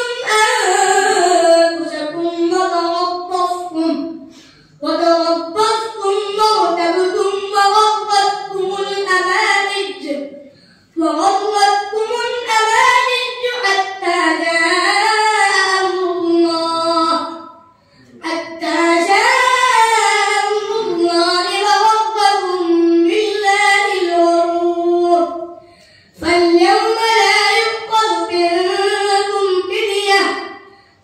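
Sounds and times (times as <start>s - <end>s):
boy chanting melodically: 0.0s - 30.8s.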